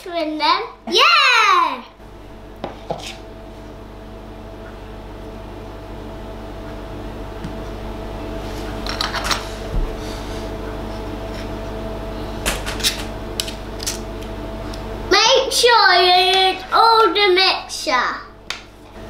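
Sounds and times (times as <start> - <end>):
appliance hum: 0.0 - 19.0.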